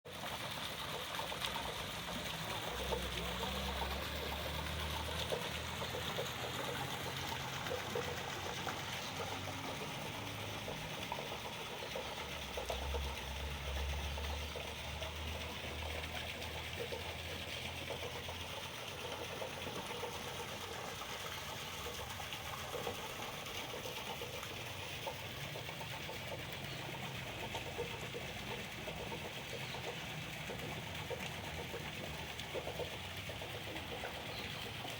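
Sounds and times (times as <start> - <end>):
fountain water splashing: 0.1 - 34.9.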